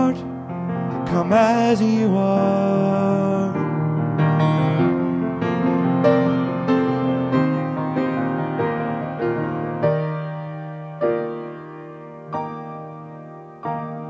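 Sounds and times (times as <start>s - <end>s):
grand piano playing: 0.0s - 14.0s.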